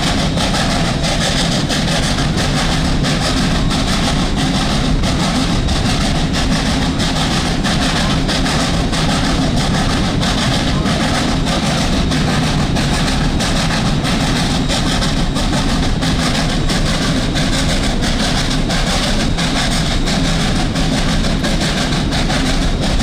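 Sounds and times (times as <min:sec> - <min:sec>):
train rumbling from aboard: 0:00.0 - 0:23.0.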